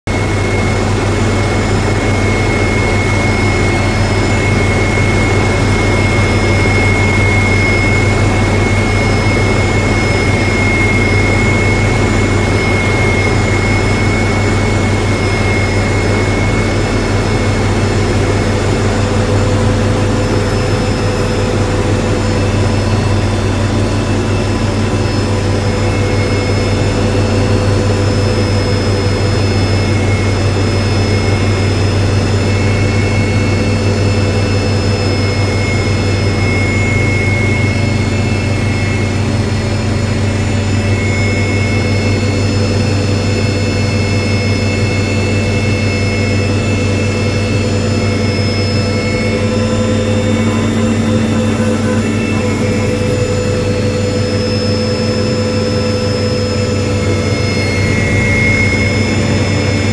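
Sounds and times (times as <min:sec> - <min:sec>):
helicopter engine and rotor drone: 0:00.0 - 0:59.9
high turbine whine: 0:00.0 - 0:59.9.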